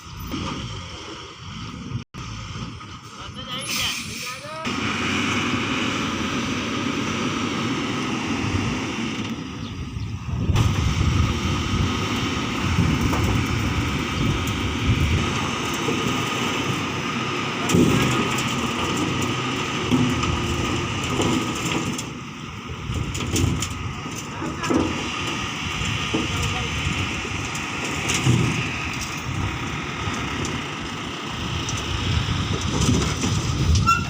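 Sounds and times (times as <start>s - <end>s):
diesel engine rumbling under load: 0.0s - 34.0s.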